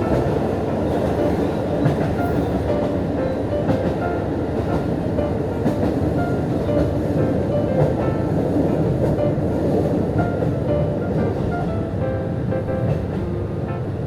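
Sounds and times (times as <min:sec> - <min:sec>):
railcar rumble: 0:00.0 - 0:14.0.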